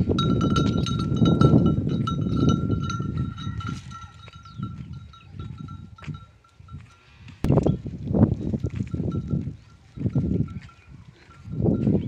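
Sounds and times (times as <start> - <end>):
livestock bell clanking: 0.0 - 7.9, 8.6 - 12.0.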